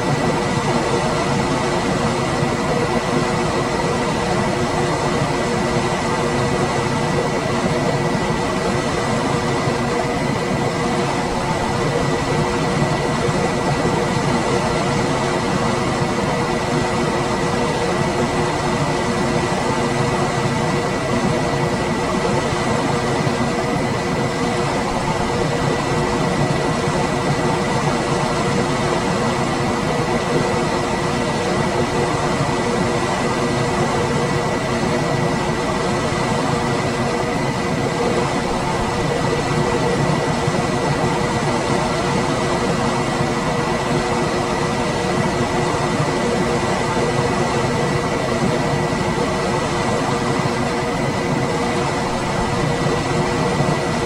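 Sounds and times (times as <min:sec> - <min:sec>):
air conditioner fan noise: 0:00.0 - 0:54.0
constant hum: 0:00.0 - 0:54.0
steady high whine: 0:00.0 - 0:54.0.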